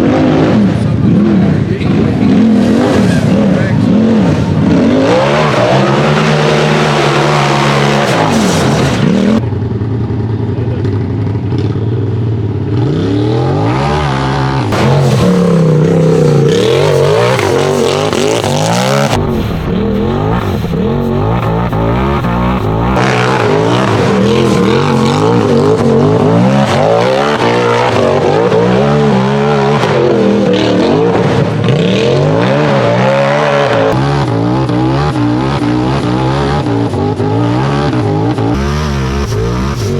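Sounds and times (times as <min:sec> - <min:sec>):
utv engine revving: 0:00.0 - 0:09.7, 0:11.3 - 0:39.9.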